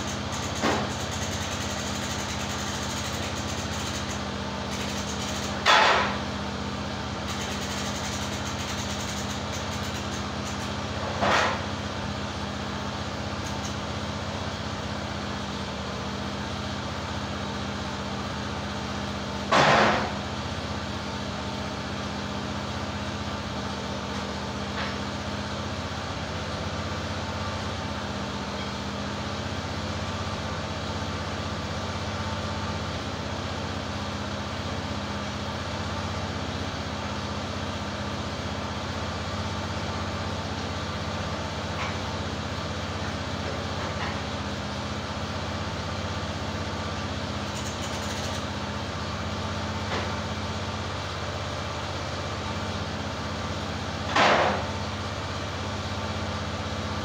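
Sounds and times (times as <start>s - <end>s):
sawmill engine idling: 0.0s - 57.0s.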